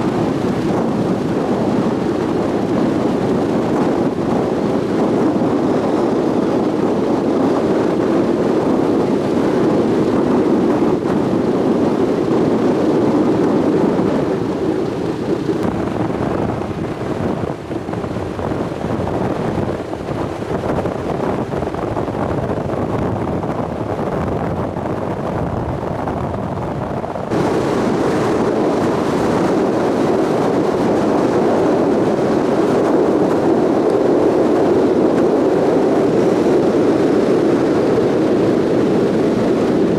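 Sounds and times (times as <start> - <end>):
rushing water: 0.0 - 39.9
wind buffeting microphone: 0.0 - 39.9.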